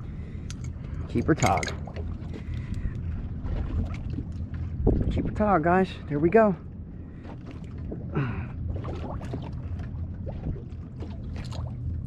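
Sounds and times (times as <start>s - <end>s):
boat motor humming: 0.0s - 12.0s
light water sounds: 0.0s - 12.0s.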